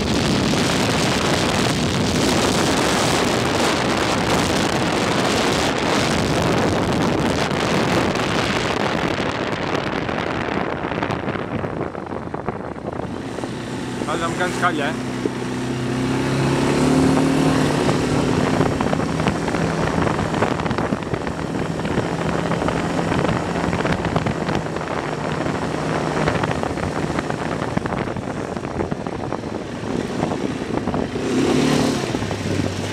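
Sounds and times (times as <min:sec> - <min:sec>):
atv engine running: 0:00.0 - 0:32.9
tyres on a dirt track: 0:00.0 - 0:32.9
wind noise: 0:00.0 - 0:32.9.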